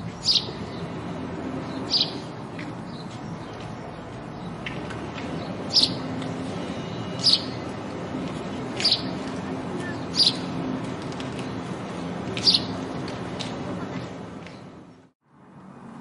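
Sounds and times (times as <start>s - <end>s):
sparrows chirping: 0.0s - 13.2s.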